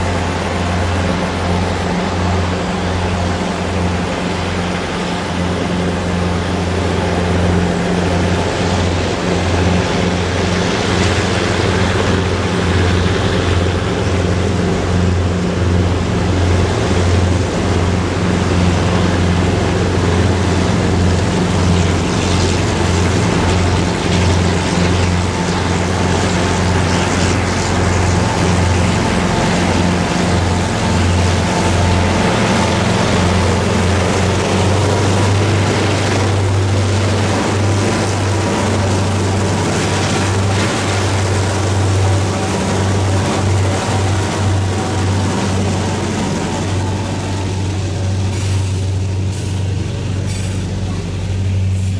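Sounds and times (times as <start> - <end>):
diesel locomotive engines droning: 0.0 - 51.9
train rumbling over track: 0.0 - 51.9.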